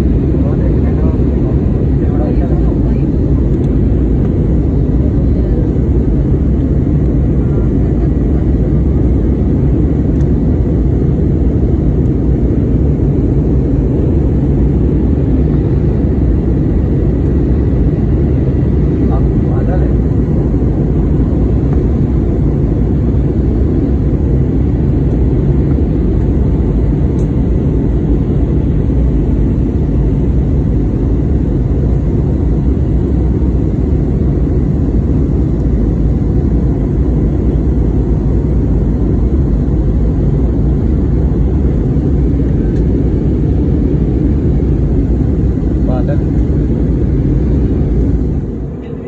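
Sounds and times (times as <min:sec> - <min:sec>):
airplane cabin engine rumble: 0:00.0 - 0:49.0.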